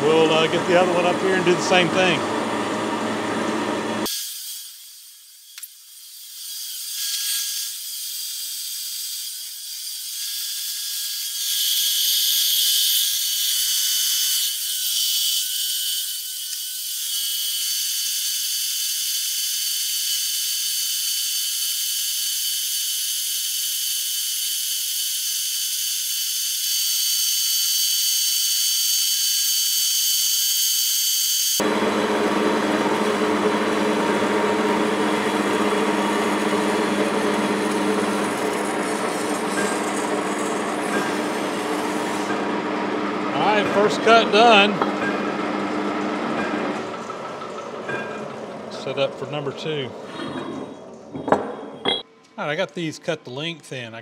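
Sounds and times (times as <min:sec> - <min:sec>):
bandsaw whine cutting steel: 0:00.0 - 0:52.0.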